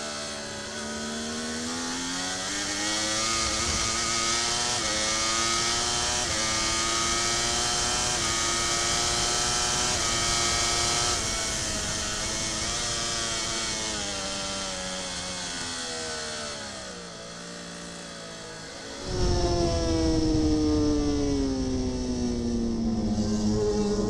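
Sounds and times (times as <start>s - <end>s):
motorcycle engine revving down: 0.0s - 24.0s.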